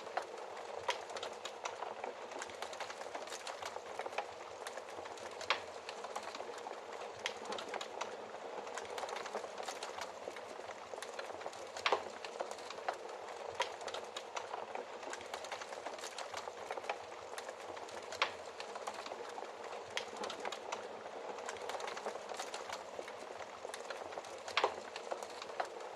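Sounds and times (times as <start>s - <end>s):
fireplace fire crackling: 0.0s - 25.9s.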